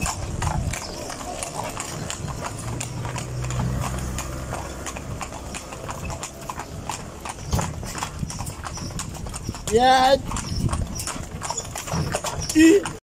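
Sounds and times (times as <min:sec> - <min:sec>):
horse hooves on asphalt: 0:00.0 - 0:13.0.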